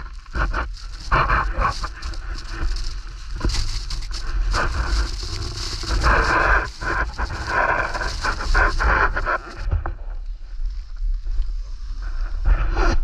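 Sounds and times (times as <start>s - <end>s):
skis sliding through snow: 0.0s - 12.7s.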